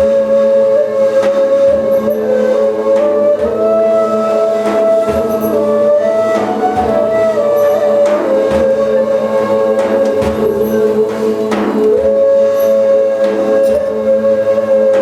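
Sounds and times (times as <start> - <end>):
jaw harp drone and melody: 0.0 - 15.0.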